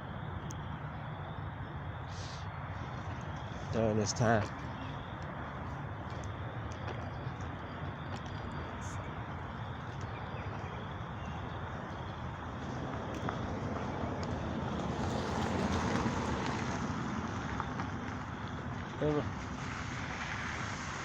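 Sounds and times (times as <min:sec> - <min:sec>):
rushing outdoor background noise: 0:00.0 - 0:21.0.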